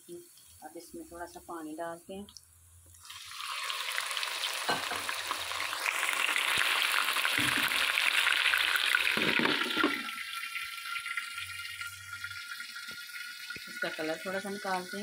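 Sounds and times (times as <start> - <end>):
water hissing in hot oil: 2.8 - 15.0.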